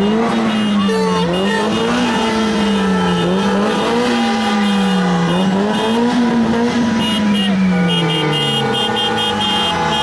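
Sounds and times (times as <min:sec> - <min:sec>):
horns blaring: 0:00.0 - 0:10.0.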